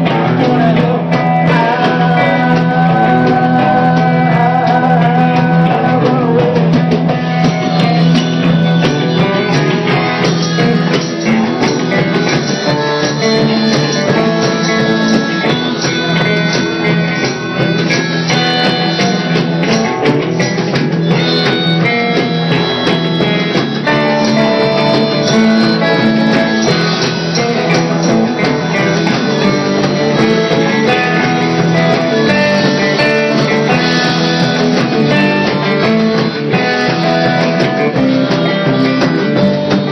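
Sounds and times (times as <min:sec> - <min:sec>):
lead guitar: 0:00.0 - 0:39.9
live rock band playing: 0:00.0 - 0:39.9.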